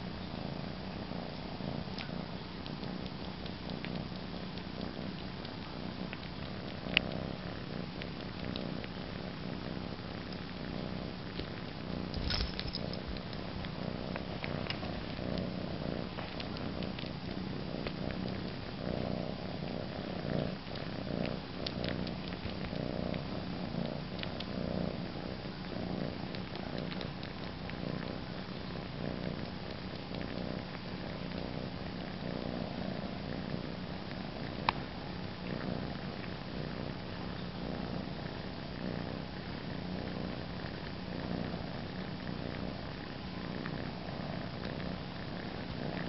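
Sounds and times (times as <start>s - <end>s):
cat purring: 0.0s - 46.0s.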